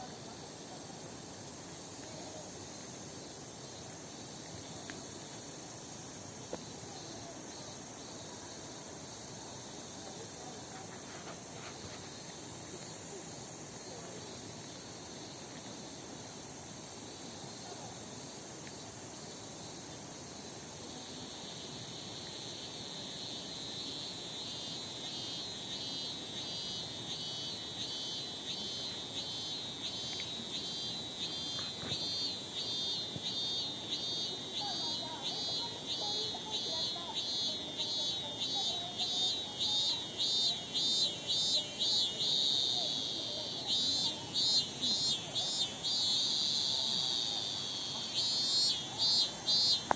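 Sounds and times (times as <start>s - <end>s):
cicada pulsing call: 0.0s - 49.9s
high insect hiss: 0.0s - 49.9s.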